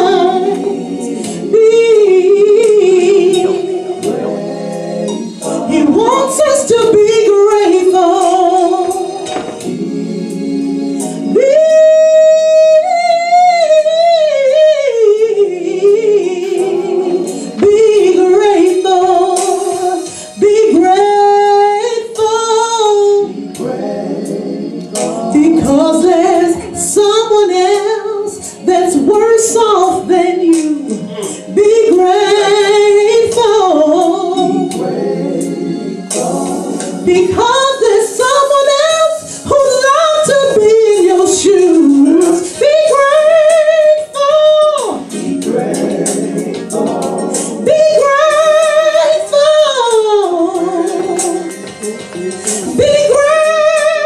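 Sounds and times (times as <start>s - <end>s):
woman singing gospel: 0.0s - 54.0s.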